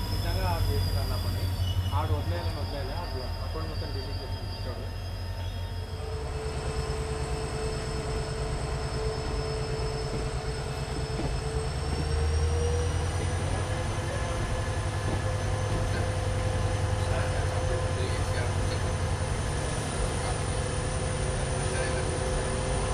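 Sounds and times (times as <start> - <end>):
thin whine: 0.0 - 22.9
train rumble: 0.0 - 22.9.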